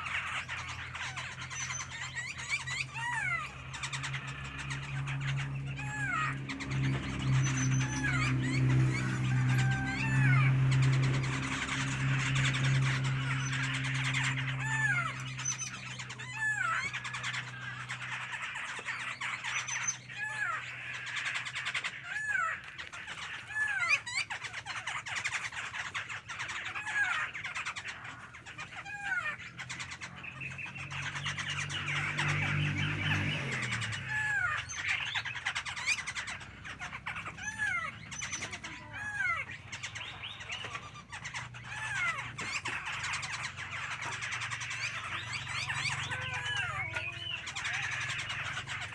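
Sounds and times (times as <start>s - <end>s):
songbird calling: 0.0s - 48.9s.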